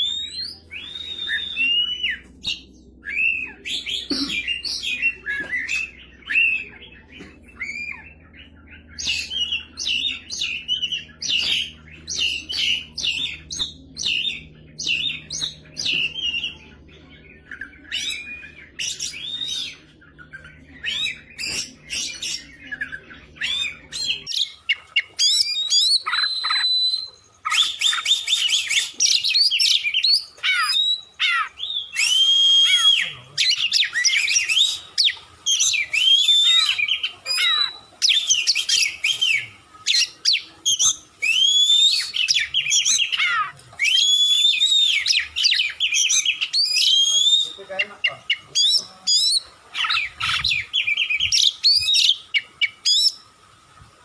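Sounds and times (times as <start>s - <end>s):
bird singing whistled phrases: 0.0s - 6.8s, 7.5s - 16.8s, 17.4s - 53.2s
faint low hum: 0.0s - 47.2s.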